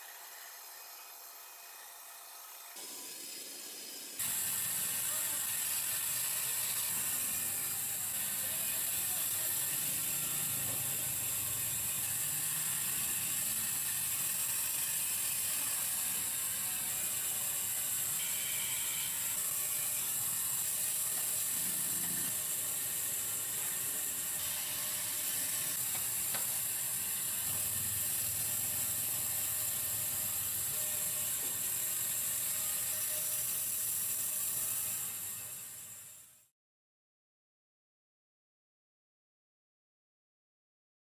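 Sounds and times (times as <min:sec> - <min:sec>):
band saw cutting wood: 0:00.0 - 0:36.2.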